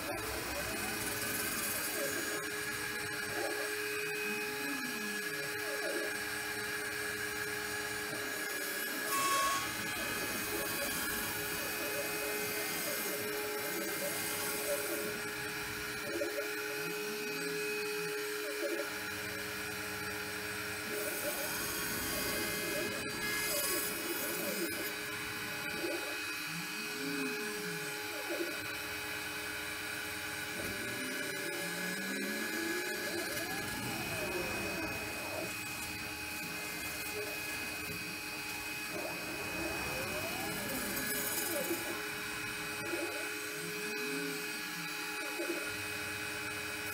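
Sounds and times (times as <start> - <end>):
spindle whine: 0.0 - 45.0
stepper motors gliding tones: 0.0 - 46.3.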